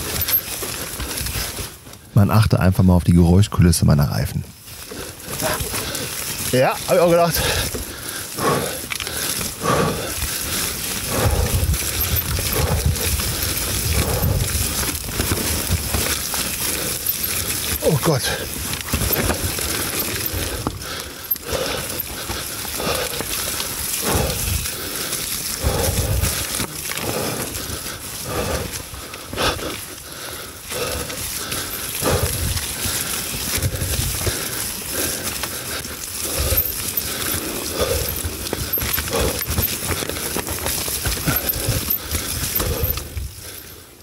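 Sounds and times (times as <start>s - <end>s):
bike rattling over rough ground: 0.0s - 44.0s
bike tyres rolling through mud: 0.0s - 44.0s.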